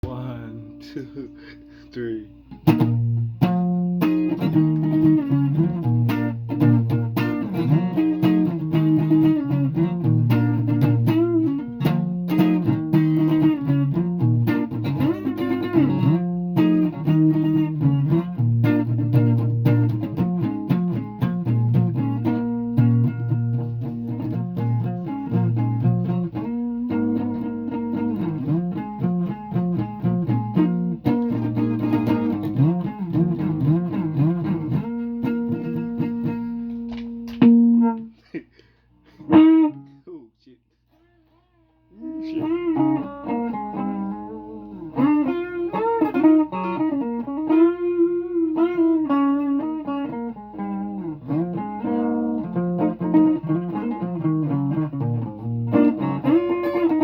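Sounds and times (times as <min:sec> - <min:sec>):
guitar playing: 0:00.0 - 0:38.2, 0:39.0 - 0:40.0, 0:41.9 - 0:57.0.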